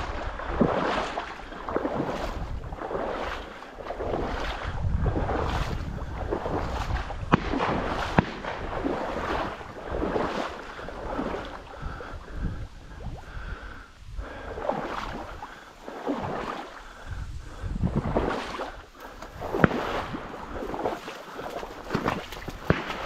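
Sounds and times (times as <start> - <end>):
reeds rustling and swishing: 0.0 - 11.7, 14.6 - 23.0
wind buffeting microphone: 0.0 - 23.0.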